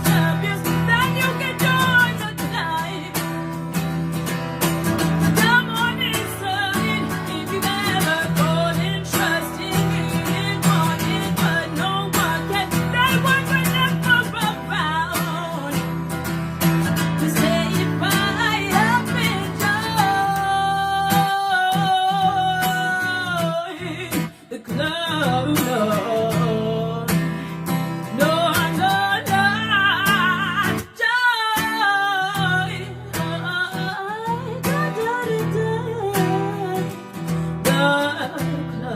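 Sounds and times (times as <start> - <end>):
acoustic guitar: 0.0 - 38.9
woman singing: 0.0 - 38.9.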